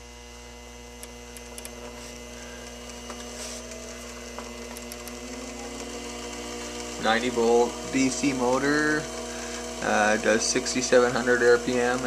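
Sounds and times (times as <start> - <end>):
electric motor whine: 0.0 - 12.0
electrical hum: 0.0 - 12.0.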